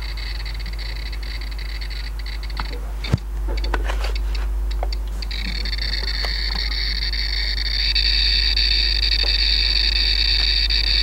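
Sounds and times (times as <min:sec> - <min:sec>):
low hum: 0:00.0 - 0:11.0
radiation meter clicks: 0:00.0 - 0:11.0.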